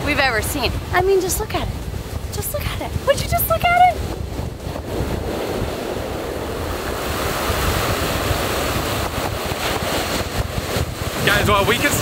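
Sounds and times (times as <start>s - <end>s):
small waves breaking on sand: 0.0s - 12.0s
wind rumbling on microphone: 0.0s - 12.0s.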